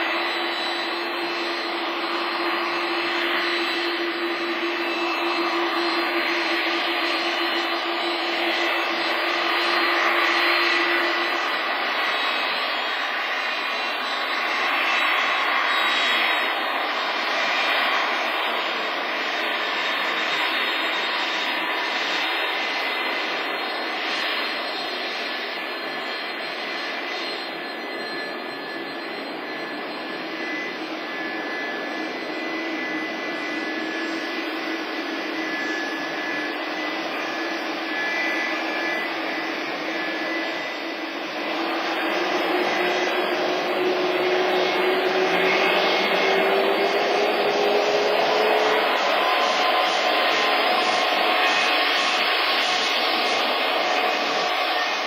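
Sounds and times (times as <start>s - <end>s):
jet engines roaring: 0.0s - 55.0s
thin high whine: 0.0s - 55.0s.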